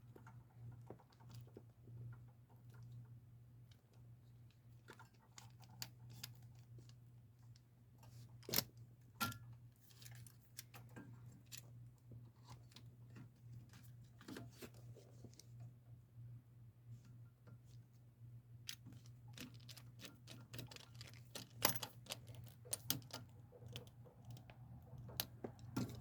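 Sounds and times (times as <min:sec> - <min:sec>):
clicks and rattles of handled wires: 0:00.0 - 0:15.7, 0:18.6 - 0:26.0.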